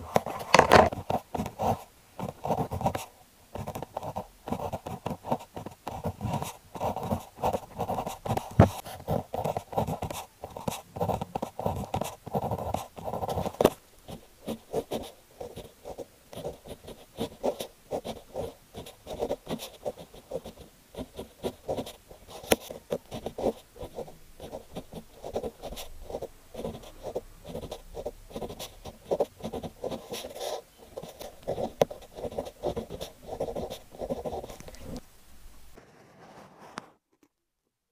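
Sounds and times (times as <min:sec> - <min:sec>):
pen nib scratching on paper: 0:00.1 - 0:35.0, 0:35.8 - 0:37.0.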